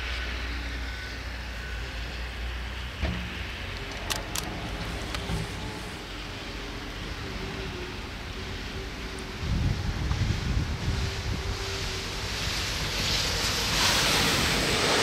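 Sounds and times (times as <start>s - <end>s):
locomotive low rumble: 0.0s - 15.0s.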